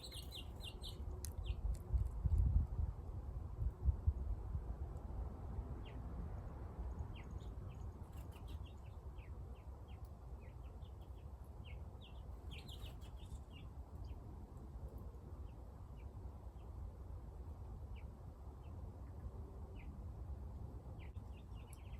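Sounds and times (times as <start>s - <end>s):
small birds chirping: 0.0s - 2.1s, 5.6s - 20.0s, 20.8s - 21.9s
steady low rumble: 0.0s - 21.9s.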